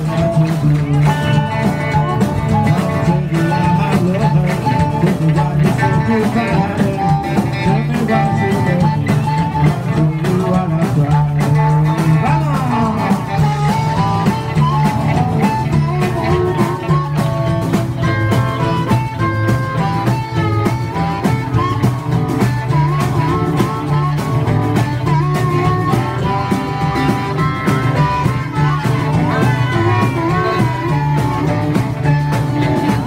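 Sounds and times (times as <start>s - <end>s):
electric guitar: 0.0s - 33.0s
harmonica bending notes: 0.0s - 33.0s
steady drum beat: 0.0s - 33.0s
upright bass: 0.0s - 33.0s.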